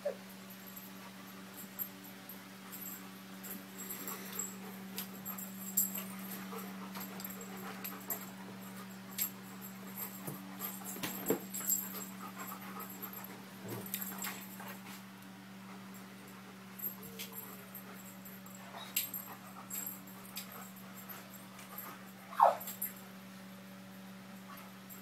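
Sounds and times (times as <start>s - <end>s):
steady low hum: 0.0s - 25.0s
dogs panting: 0.5s - 23.2s
dogs scuffling: 2.6s - 23.0s.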